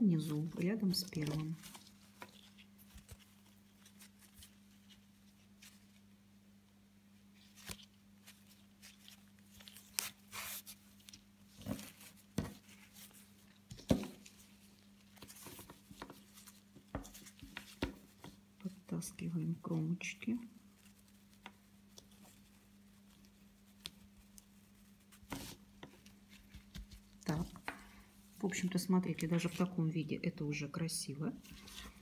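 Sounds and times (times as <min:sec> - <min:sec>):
ribbon rustling: 0:00.0 - 0:06.1, 0:07.3 - 0:29.9, 0:31.4 - 0:32.0.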